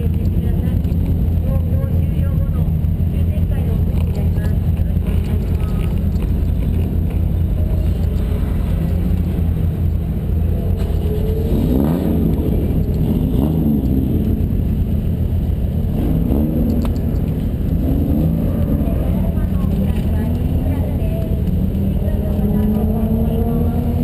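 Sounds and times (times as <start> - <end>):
car engine idling: 0.0 - 23.4.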